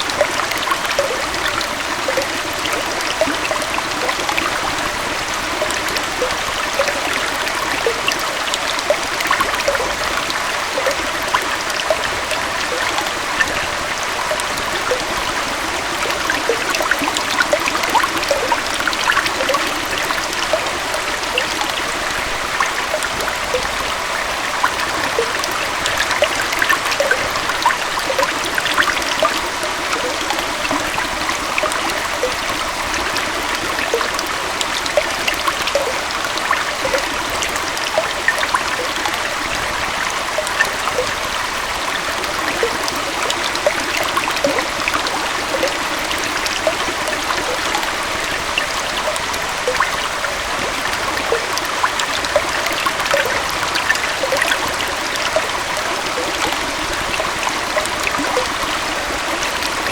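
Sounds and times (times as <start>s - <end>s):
small waterfall rushing: 0.0s - 59.9s
water splashes and trickles: 0.0s - 59.9s.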